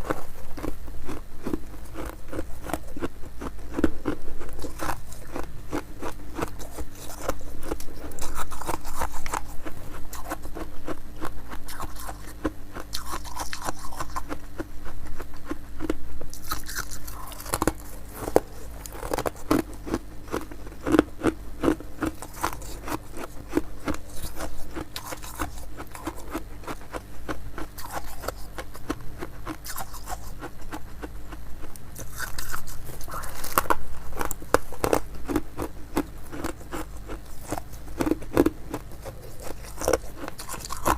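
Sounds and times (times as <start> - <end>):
crunching and chewing ice: 0.0 - 40.9.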